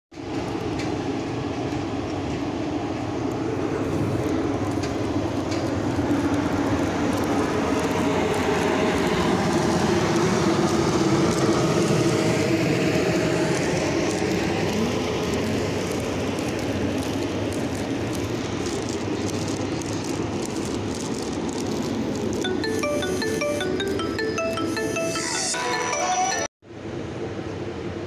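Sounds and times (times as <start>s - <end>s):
train wheels rumbling: 0.2s - 24.1s.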